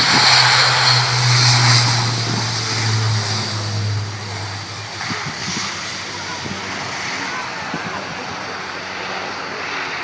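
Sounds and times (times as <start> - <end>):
broad rushing noise: 0.0 - 10.0
propeller drone: 0.0 - 10.0.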